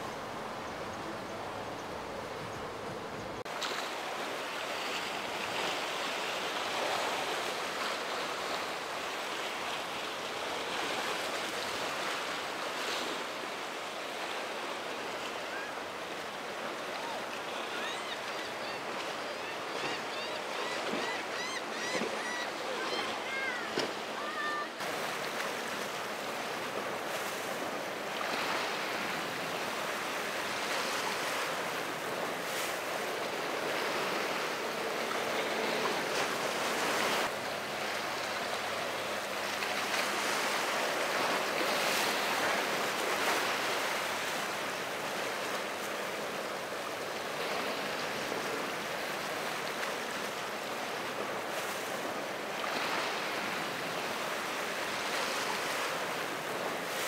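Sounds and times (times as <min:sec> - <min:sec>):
waves breaking and washing: 0:00.0 - 0:57.0.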